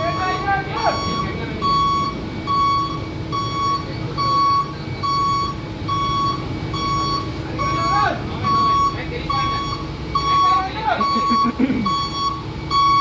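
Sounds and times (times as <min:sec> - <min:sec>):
engine rumbling: 0:00.0 - 0:13.0
reversing alarm beeping: 0:00.0 - 0:13.0.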